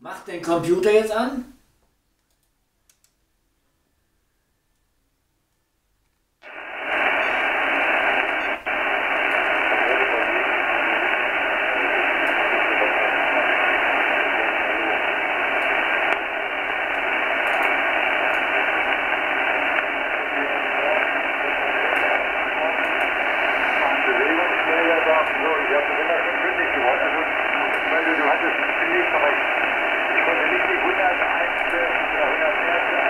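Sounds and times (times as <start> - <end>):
radio receiver hiss: 6.4 - 33.0.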